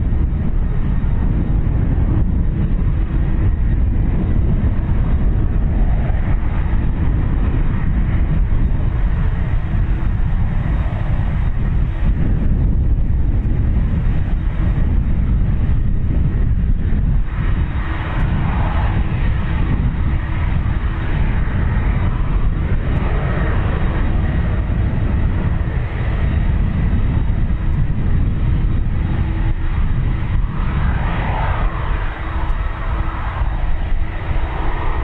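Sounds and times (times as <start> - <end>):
faint engine whine: 0.0 - 35.0
jet engines rumbling: 0.0 - 35.0.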